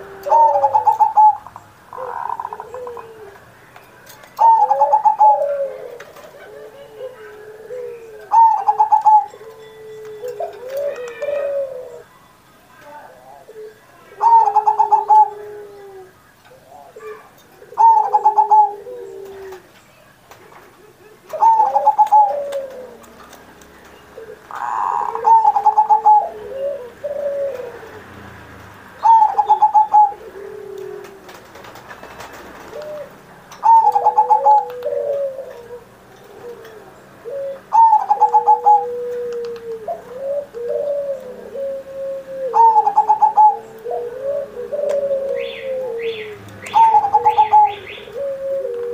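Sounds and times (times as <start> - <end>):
dove cooing: 0.0 - 3.5, 4.1 - 12.2, 13.0 - 48.9.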